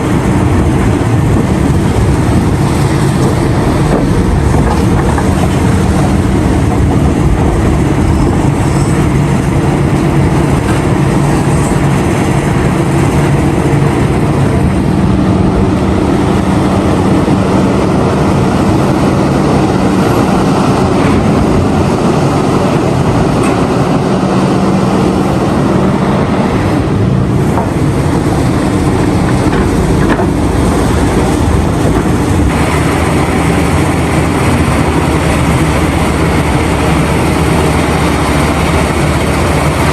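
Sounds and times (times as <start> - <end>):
diesel engines droning: 0.0 - 39.9.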